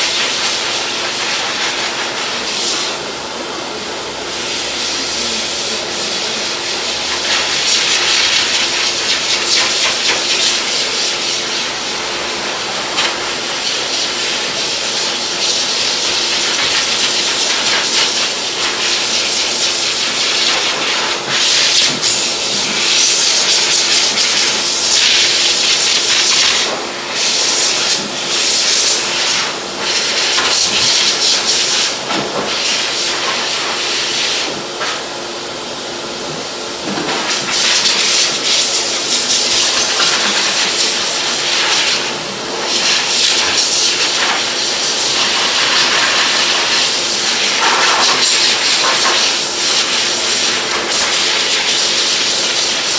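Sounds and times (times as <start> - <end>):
dryer blowing air: 0.0 - 52.9.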